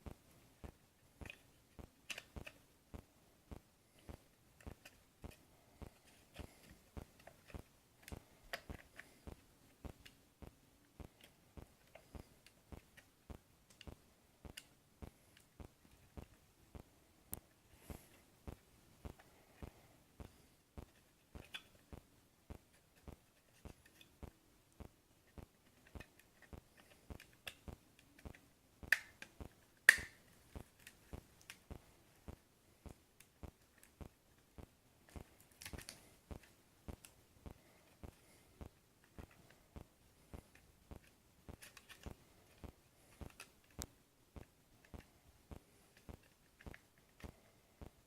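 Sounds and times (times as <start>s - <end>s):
sharp plastic snaps: 0.0s - 3.0s, 3.9s - 16.4s, 17.3s - 47.9s
plastic parts clicking and tapping: 0.0s - 48.0s.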